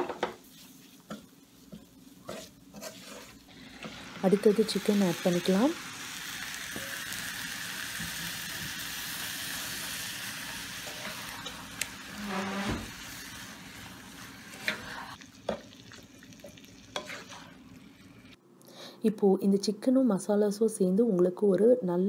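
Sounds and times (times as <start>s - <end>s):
chicken sizzling in oil: 0.5s - 18.4s.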